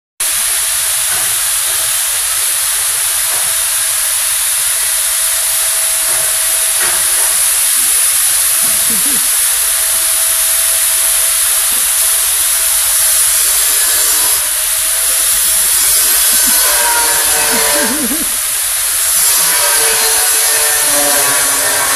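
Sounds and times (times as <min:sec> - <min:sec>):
loud steady hiss: 0:00.2 - 0:21.9.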